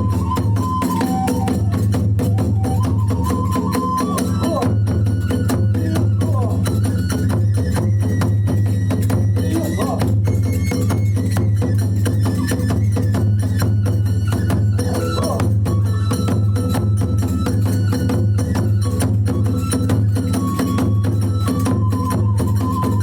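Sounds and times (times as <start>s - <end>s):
bamboo flute playing: 0.0s - 23.0s
drums beating fast rhythm: 0.0s - 23.0s.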